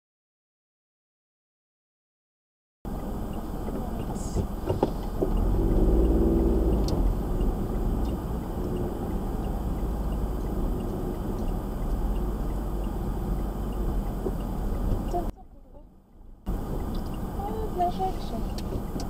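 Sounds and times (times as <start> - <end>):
car engine and tyre noise: 2.9 - 19.0
faint even ticking: 2.9 - 19.0.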